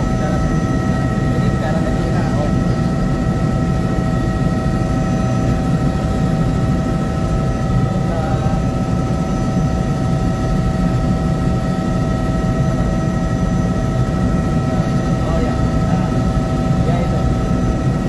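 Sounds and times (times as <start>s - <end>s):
helicopter rotor and engine rumble: 0.0s - 18.0s.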